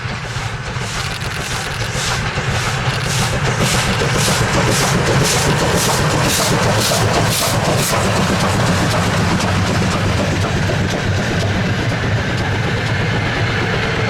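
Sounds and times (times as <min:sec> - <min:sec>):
low rumble of train: 0:00.0 - 0:14.0
steam locomotive exhaust chuffing: 0:00.0 - 0:14.0.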